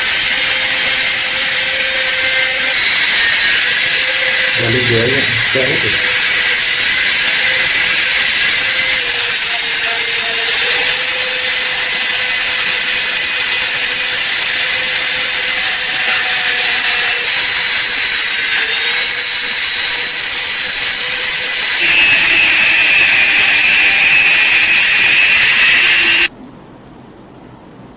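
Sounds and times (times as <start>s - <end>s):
abrasive power tool on metal: 0.0s - 26.3s.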